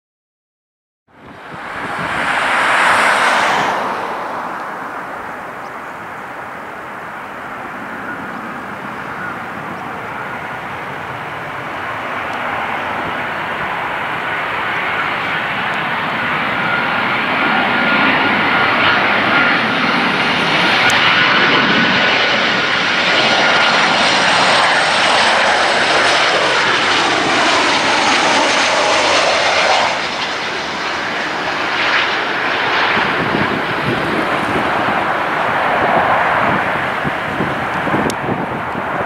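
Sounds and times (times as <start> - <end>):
jet engines roaring with whine: 1.1 - 39.0.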